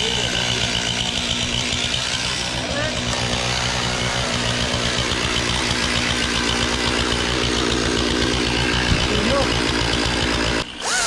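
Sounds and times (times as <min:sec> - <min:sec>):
motor engine running steadily: 0:00.0 - 0:10.9.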